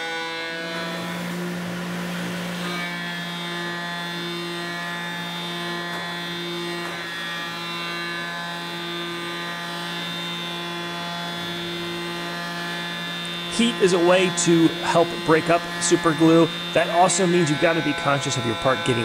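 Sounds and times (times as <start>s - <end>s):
milling spindle whine: 0.4s - 19.0s.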